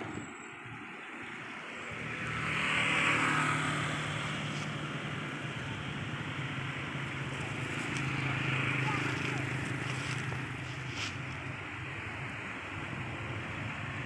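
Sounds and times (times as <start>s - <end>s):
steady low engine hum: 0.0s - 14.0s
vehicle passing by: 1.1s - 14.0s.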